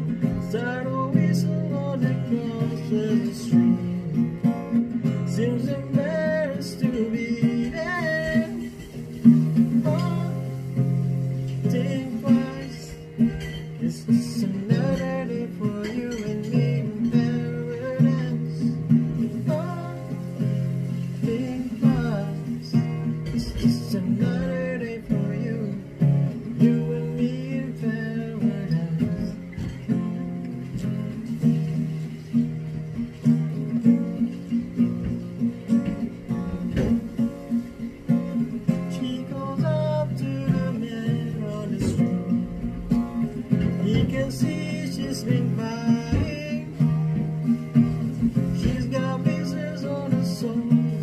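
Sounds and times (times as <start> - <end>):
man singing: 0.0 - 32.4, 33.2 - 51.0
acoustic guitar strumming: 0.0 - 51.0.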